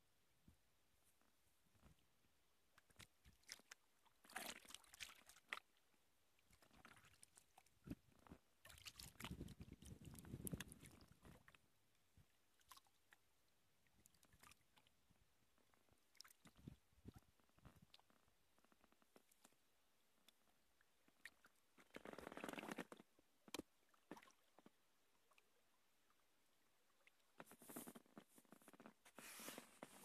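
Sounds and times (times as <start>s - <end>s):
small clicks and drips: 2.7s - 29.0s.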